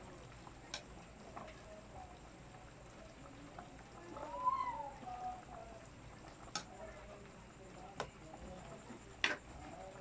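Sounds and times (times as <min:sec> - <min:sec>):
broth simmering in a pan: 0:00.0 - 0:10.0.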